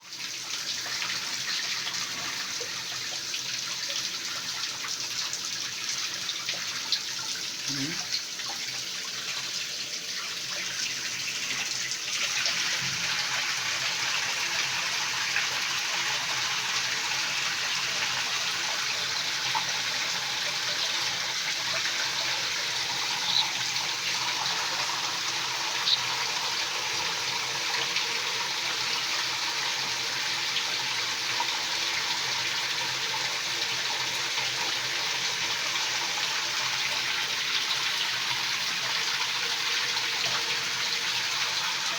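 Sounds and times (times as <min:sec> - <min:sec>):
running water rushing: 0:05.0 - 0:41.9.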